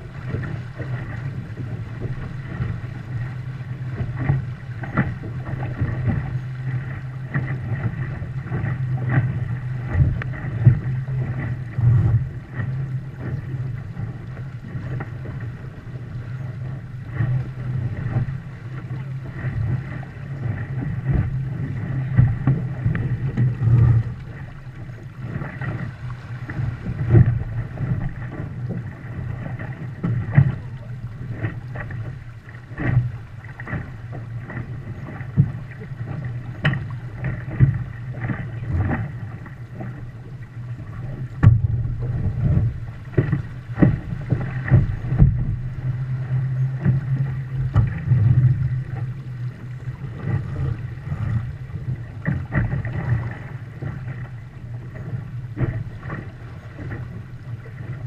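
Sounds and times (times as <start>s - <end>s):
splashes and knocks: 0.0s - 15.5s, 17.0s - 40.1s, 40.9s - 54.4s
steady low rumble: 0.0s - 58.0s
water slapping against boat hull: 0.0s - 58.0s.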